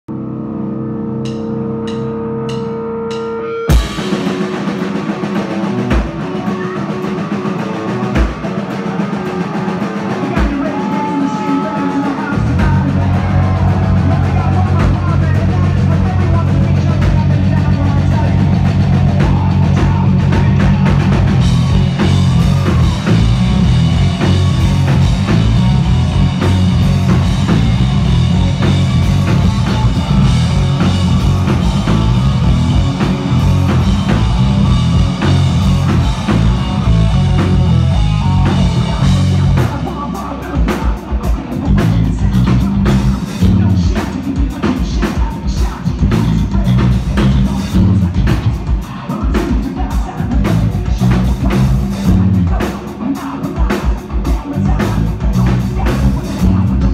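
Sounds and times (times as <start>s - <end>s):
bass guitar: 0.0s - 56.9s
electric guitar: 0.1s - 56.9s
drum kit: 1.2s - 56.9s.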